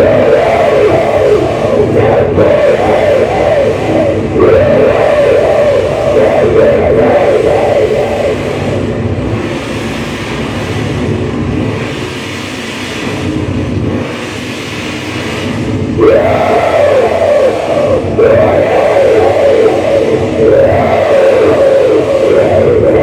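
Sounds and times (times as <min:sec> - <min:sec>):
distorted noise music drone: 0:00.0 - 0:23.0.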